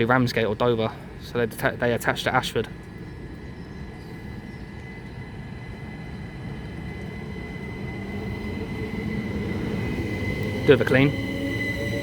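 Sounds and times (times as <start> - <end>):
train high whine: 0.0 - 12.0
train rumbling: 0.0 - 12.0.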